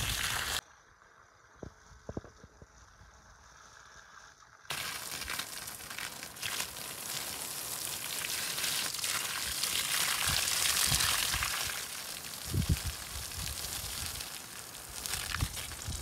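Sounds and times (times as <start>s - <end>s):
water spraying from hose: 0.0s - 0.6s, 2.0s - 16.0s.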